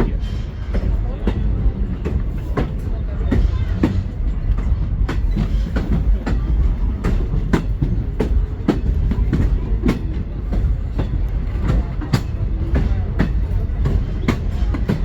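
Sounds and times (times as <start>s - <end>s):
train car low rumble: 0.0s - 15.0s.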